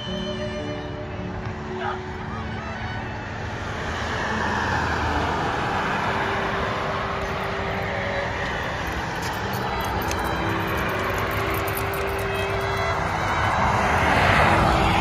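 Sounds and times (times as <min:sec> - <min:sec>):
passing cars hum: 0:00.0 - 0:15.0.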